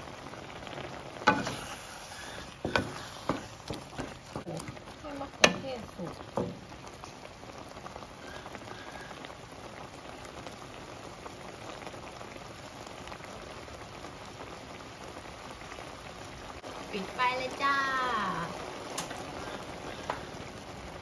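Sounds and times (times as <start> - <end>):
food bubbling and sizzling in wok: 0.0 - 21.0.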